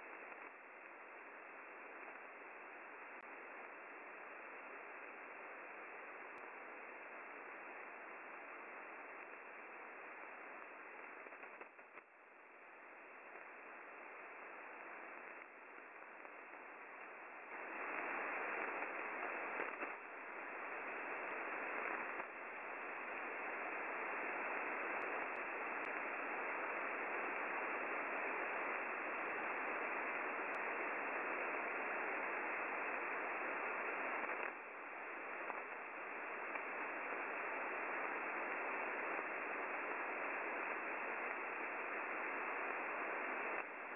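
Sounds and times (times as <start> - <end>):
radio static hiss: 0.0 - 43.9.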